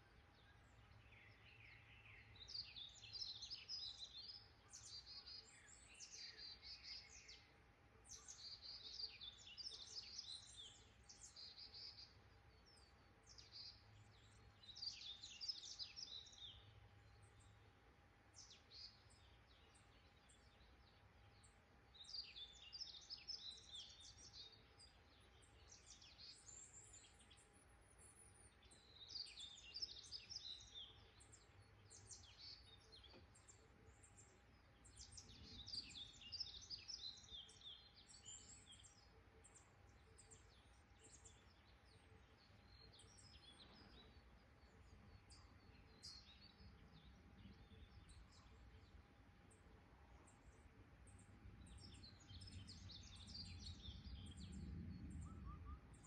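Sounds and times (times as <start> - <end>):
low background hiss: 0.0 - 56.0
songbirds chirping and trilling: 0.0 - 56.0.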